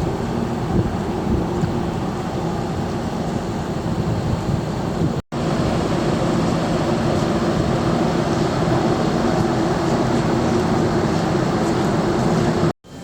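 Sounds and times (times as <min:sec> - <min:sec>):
ferry engine hum: 0:00.0 - 0:13.0
wind and sea noise: 0:00.0 - 0:13.0.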